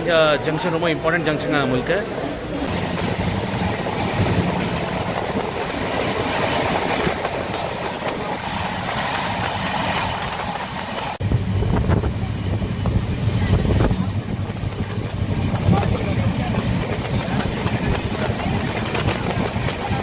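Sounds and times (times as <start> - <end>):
train wheels rumbling on rails: 2.6 - 20.0.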